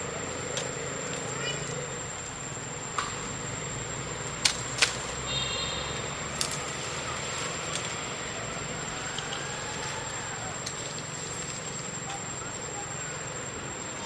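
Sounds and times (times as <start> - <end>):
high-pitched whine and hiss: 0.0 - 14.0.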